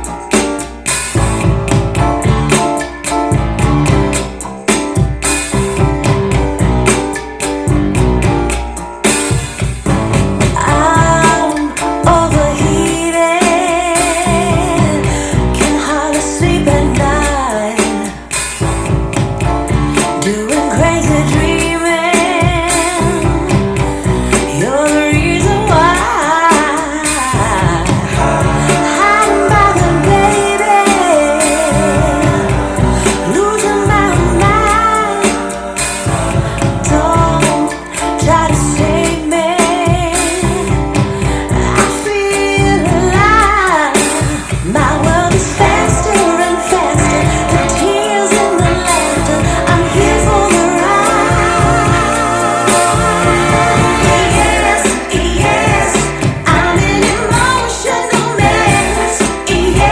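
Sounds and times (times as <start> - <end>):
steady bass line: 0.0 - 13.1, 14.1 - 17.5, 18.6 - 26.3, 27.3 - 43.7, 44.6 - 59.9
woman singing: 10.5 - 18.7, 19.6 - 59.9.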